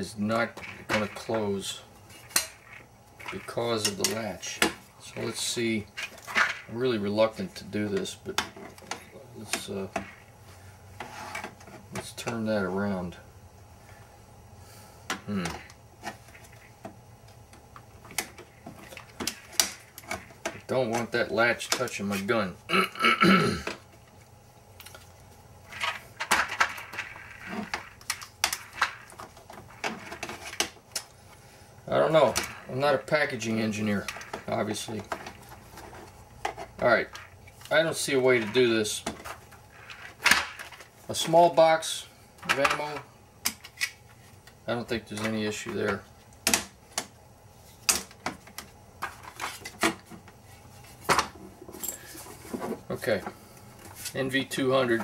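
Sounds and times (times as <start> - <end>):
rustling and scraping: 0.0 - 12.2, 15.6 - 22.4, 23.8 - 41.5, 47.5 - 55.0.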